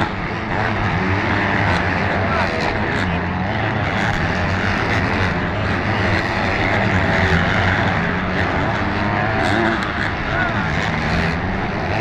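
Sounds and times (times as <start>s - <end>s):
motocross bikes racing: 0.0s - 12.0s.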